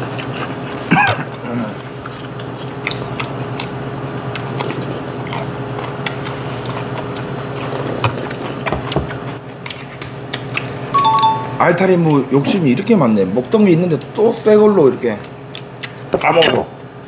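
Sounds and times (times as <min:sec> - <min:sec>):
people chewing and sipping: 0:00.0 - 0:11.1, 0:11.8 - 0:17.0
steady low hum: 0:00.0 - 0:17.0.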